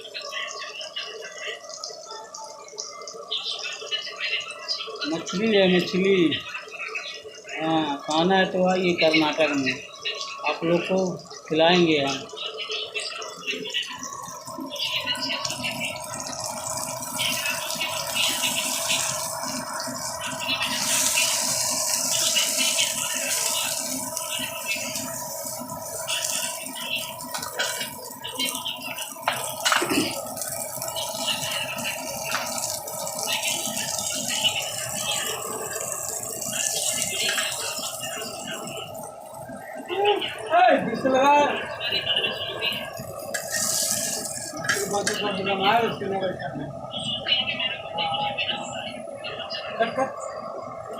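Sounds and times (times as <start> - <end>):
fish frying in hot oil: 0.0 - 50.9.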